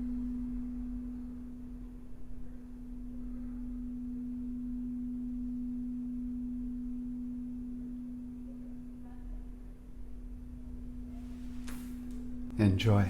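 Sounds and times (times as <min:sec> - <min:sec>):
sustained pure tone: 0:00.0 - 0:13.0.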